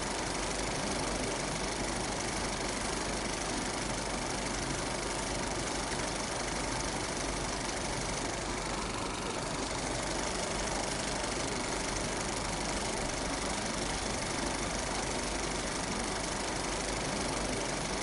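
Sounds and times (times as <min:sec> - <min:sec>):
film projector clattering: 0:00.0 - 0:18.0.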